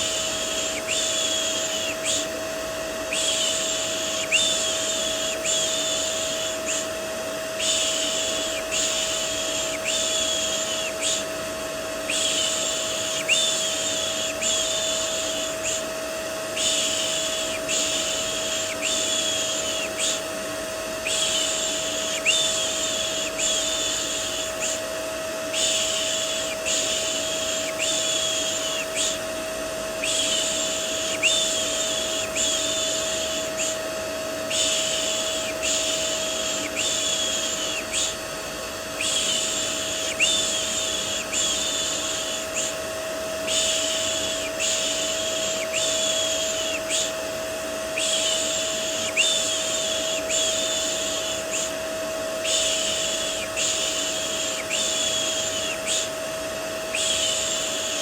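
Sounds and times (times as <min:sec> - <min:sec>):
vacuum cleaner motor humming: 0:00.0 - 0:58.0.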